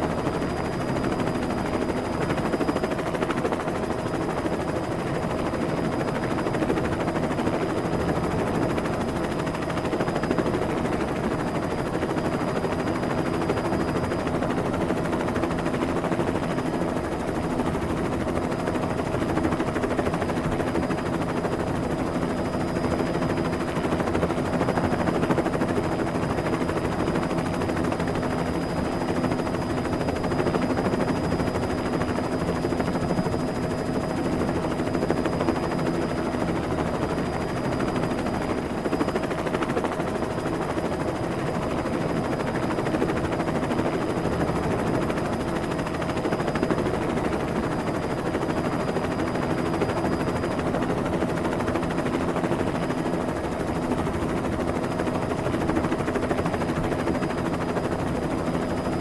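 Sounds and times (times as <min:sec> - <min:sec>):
helicopter engine hum: 0:00.0 - 0:59.0
helicopter rotor chopping: 0:00.0 - 0:59.0.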